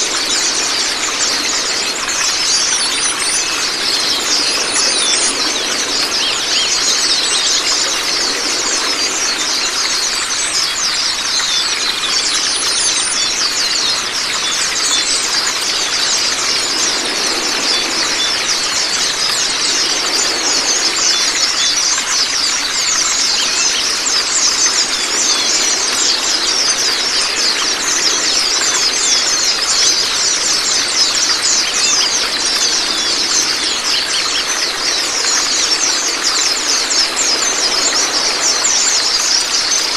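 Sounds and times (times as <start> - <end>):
flowing water: 0.0 - 39.9
songbirds twittering: 0.0 - 39.9.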